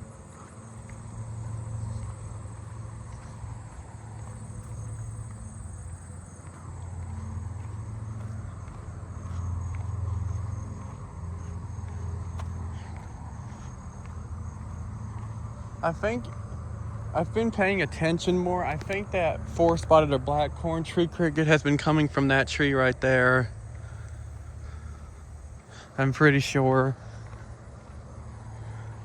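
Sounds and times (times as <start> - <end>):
crickets trilling: 0.0 - 29.0
low steady rumble: 0.0 - 29.0.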